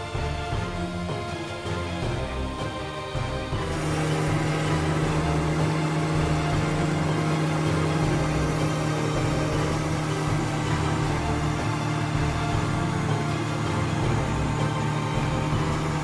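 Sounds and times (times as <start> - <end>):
snowblower rushing noise: 0.0 - 16.0
tractor diesel engine hum: 0.0 - 16.0.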